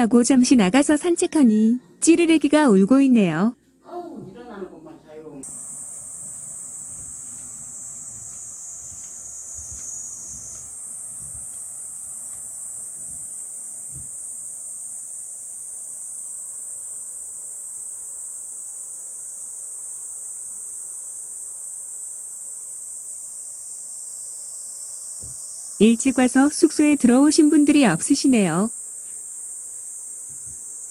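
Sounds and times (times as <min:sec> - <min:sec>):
shrill insect chorus: 0:00.0 - 0:03.3, 0:03.9 - 0:30.9.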